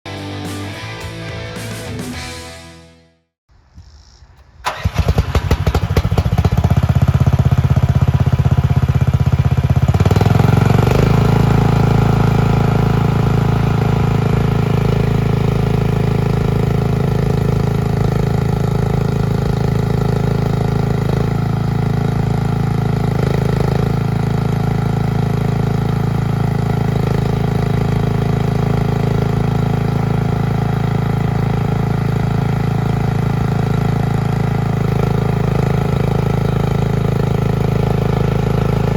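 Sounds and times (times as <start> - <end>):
engine cranking and idling: 4.6 - 38.9.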